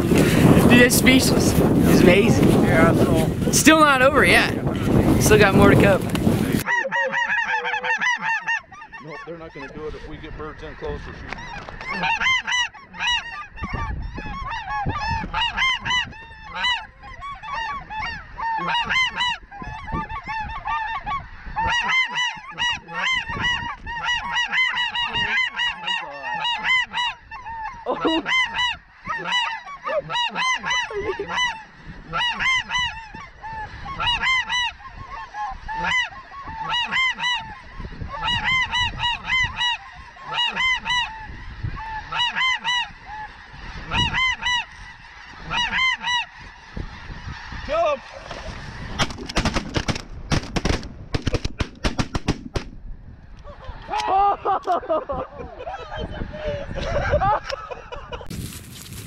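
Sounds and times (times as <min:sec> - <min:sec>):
geese honking: 0:00.0 - 0:50.0.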